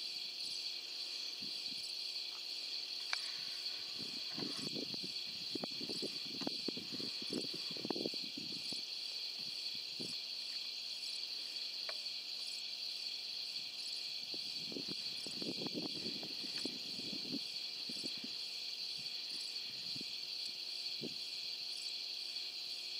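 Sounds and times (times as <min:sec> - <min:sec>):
night insect chorus: 0:00.0 - 0:22.9.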